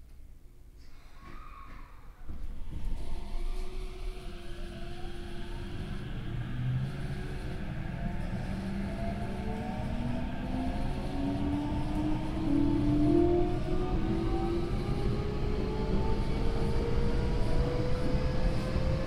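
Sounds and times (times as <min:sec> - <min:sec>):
wheels rumbling on rail: 0:02.4 - 0:19.0.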